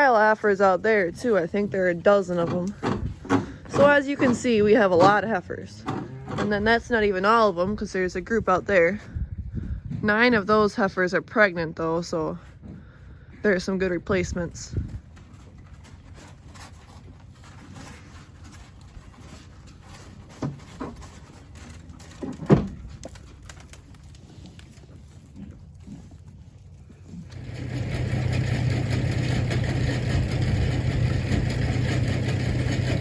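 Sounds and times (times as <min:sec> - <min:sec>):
engine running with low hum: 0:00.0 - 0:33.0.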